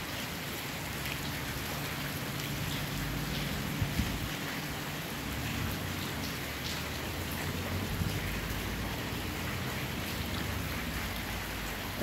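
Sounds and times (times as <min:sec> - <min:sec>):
steady rain falling: 0:00.0 - 0:12.0
raindrop ticks: 0:00.9 - 0:12.0.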